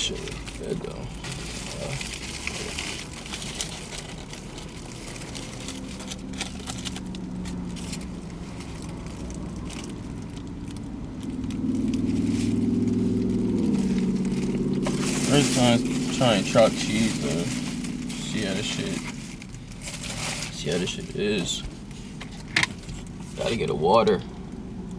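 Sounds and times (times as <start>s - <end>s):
paper wrapper crinkling: 0.0s - 24.2s
droning tone: 0.0s - 24.9s
low hum: 0.0s - 24.9s.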